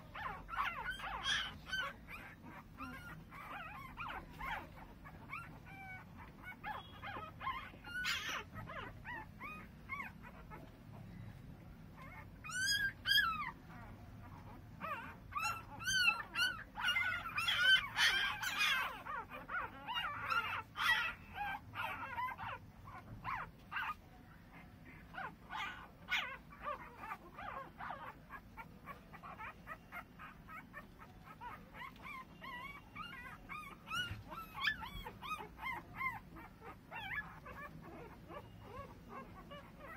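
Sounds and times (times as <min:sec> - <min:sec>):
puppies whimpering and squealing: 0:00.0 - 0:39.9.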